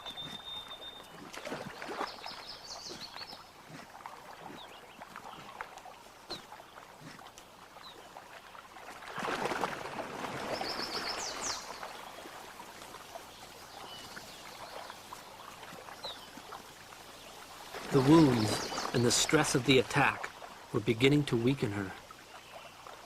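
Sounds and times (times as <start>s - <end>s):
water splashing and churning: 0.0s - 23.0s.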